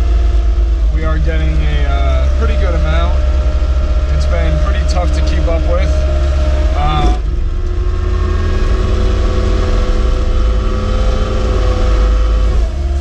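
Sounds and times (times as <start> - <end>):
diesel engine rumbling: 0.0 - 13.0
steady engine whine: 0.0 - 13.0.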